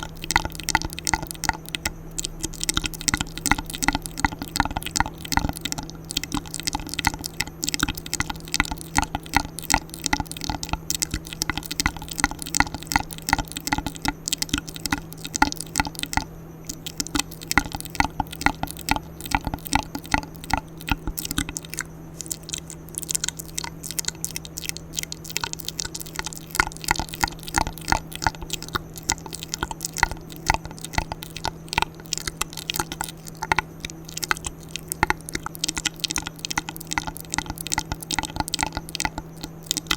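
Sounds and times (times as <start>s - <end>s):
wet mouth clicks and smacks: 0.0s - 39.9s.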